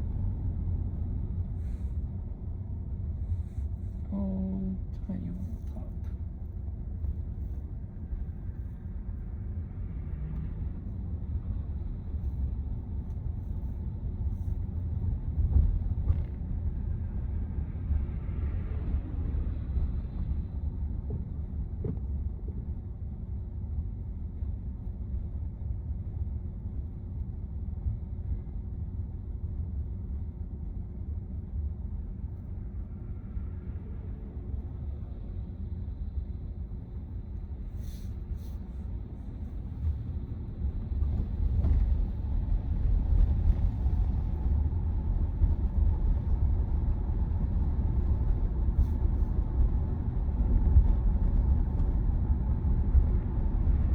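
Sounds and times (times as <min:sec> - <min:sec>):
road and tyre rumble in car cabin: 0:00.0 - 0:53.9.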